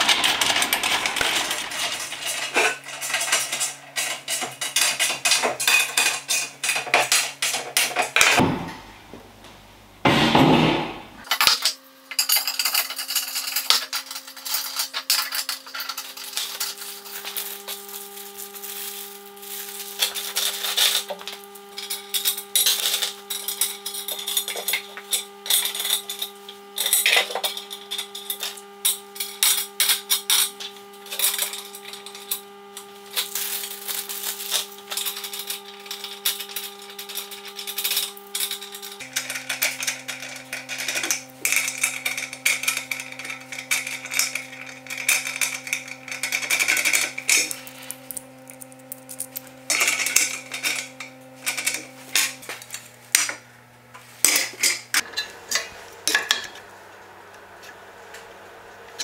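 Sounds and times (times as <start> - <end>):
metal parts clicking and clinking: 0.0 - 8.3, 11.2 - 53.4, 54.2 - 56.6.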